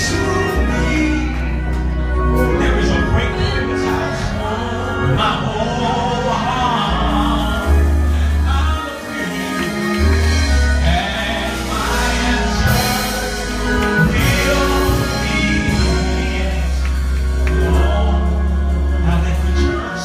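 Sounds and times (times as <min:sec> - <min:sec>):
band with sustained bass line: 0:00.0 - 0:20.0
choir singing: 0:00.0 - 0:20.0.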